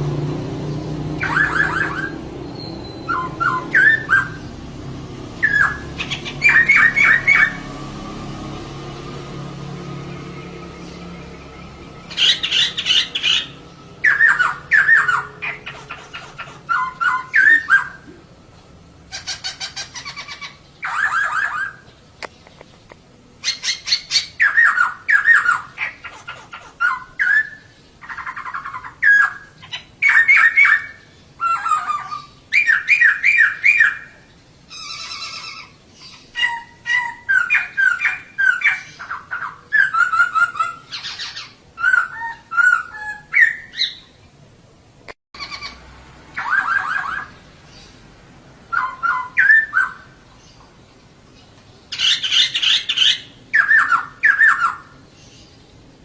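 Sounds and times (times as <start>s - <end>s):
bird chattering calls: 1.2s - 4.6s, 5.4s - 7.7s, 11.4s - 18.1s, 19.1s - 44.2s, 45.4s - 45.8s, 46.4s - 48.0s, 48.7s - 50.8s, 51.9s - 55.5s.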